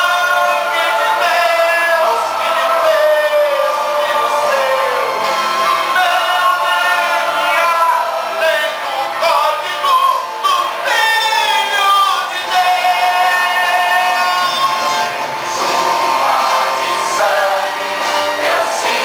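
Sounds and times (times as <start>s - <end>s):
backing music: 0.0s - 19.0s
man singing gospel: 0.0s - 19.0s.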